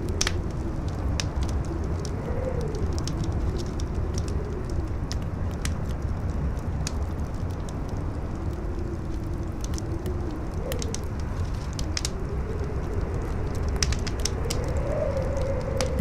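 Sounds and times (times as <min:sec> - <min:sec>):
campfire crackling: 0:00.0 - 0:16.0
low rumble of wind: 0:00.0 - 0:16.0
wavering wind howl: 0:00.0 - 0:16.0.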